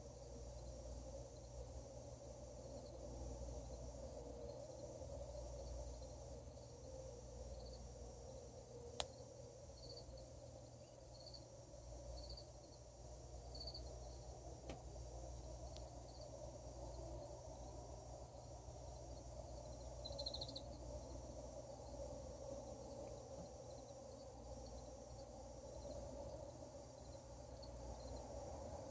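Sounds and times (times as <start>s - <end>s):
cricket chirps: 0.0s - 28.9s
faint steady drone: 0.0s - 28.9s.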